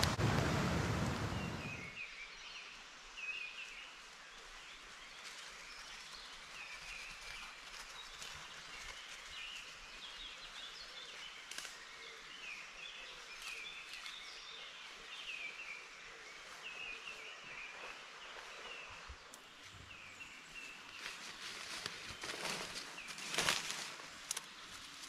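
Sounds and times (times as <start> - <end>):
background hiss: 0.0 - 25.0
birds twittering: 0.0 - 25.0
leaves rustling: 0.0 - 25.0.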